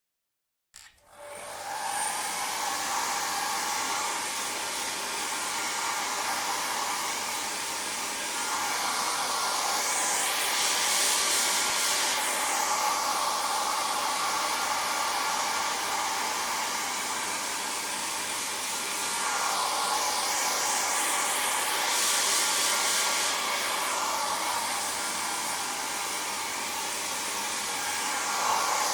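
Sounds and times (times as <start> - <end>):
hair dryer running: 0.8 - 28.9.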